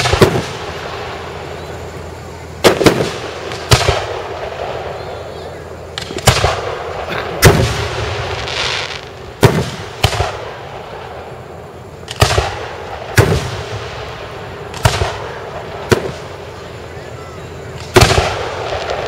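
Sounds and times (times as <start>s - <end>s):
firework shells bursting: 0.0s - 17.0s, 17.6s - 19.0s.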